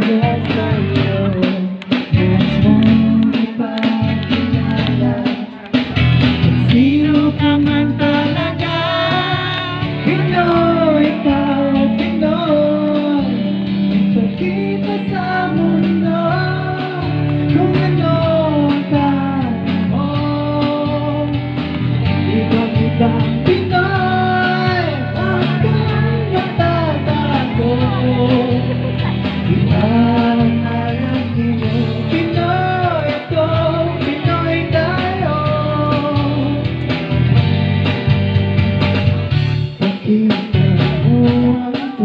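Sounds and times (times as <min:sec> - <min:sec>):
person singing: 0:00.0 - 0:36.9, 0:39.8 - 0:42.0.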